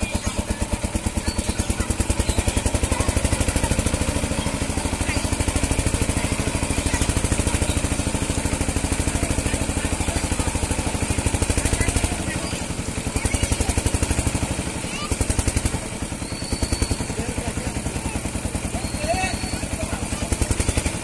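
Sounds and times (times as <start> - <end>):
small engine chugging: 0.0 - 21.0.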